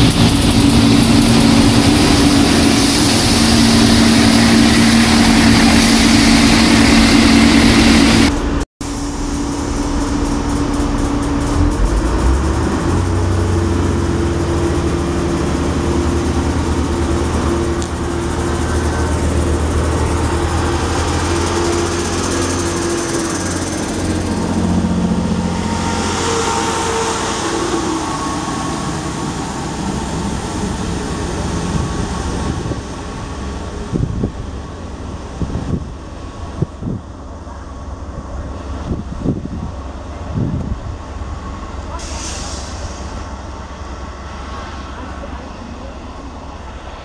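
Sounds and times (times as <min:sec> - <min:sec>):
train diesel engines running: 0:00.0 - 0:47.0.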